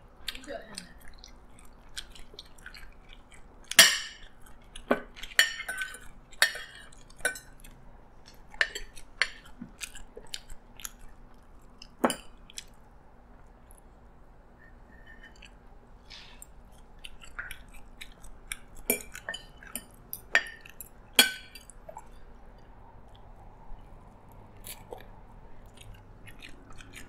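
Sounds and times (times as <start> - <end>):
person chewing: 0.1 - 14.0, 14.7 - 27.0.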